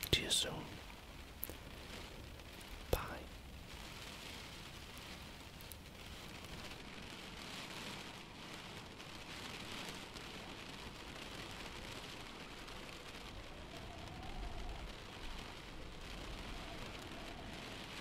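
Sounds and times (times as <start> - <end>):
rain falling on grass: 0.0 - 18.0.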